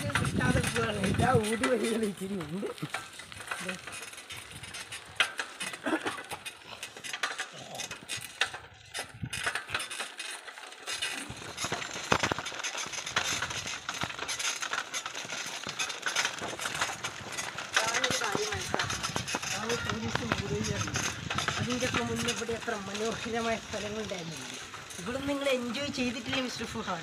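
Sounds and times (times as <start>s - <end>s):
bicycle clicks and rattles: 0.0s - 27.0s.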